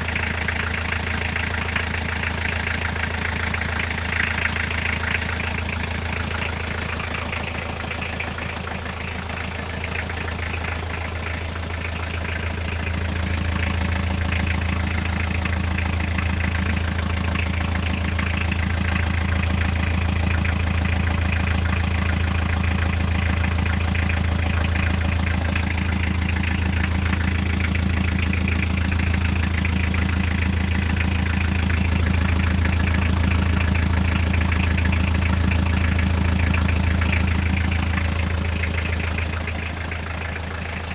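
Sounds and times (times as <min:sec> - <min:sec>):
car engine idling: 0:00.0 - 0:40.9
rapid engine knock: 0:00.0 - 0:40.9.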